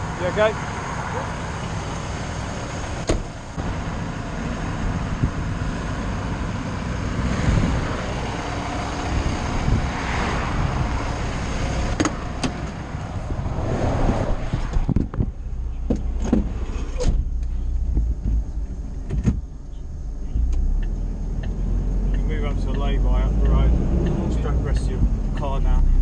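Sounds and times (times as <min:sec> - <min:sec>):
low engine rumble: 0:00.0 - 0:26.0
road traffic passing: 0:00.0 - 0:26.0.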